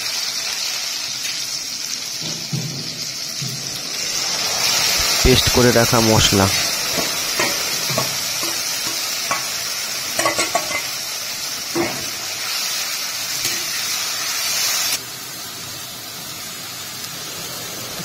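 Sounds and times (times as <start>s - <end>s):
spice paste sizzling in oil: 0.0s - 18.0s.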